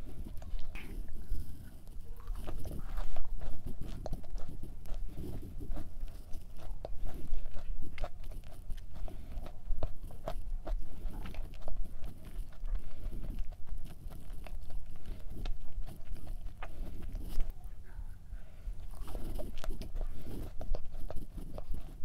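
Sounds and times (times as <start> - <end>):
biting into a cookie: 0.0 - 17.6, 18.8 - 22.0
crunchy chewing: 0.0 - 22.0.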